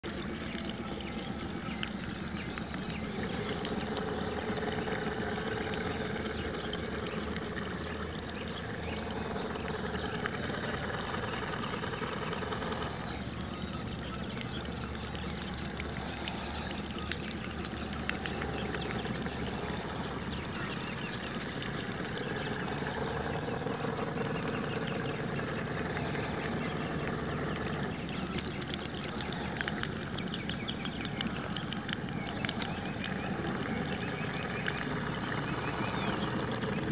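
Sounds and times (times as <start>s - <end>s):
small motors humming: 0.0s - 36.9s
water splashing: 0.0s - 36.9s.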